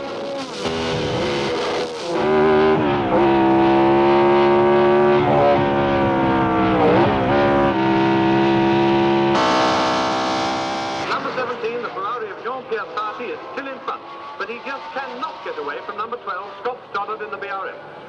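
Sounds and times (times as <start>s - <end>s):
racing car engine at high revs: 0.0s - 18.0s.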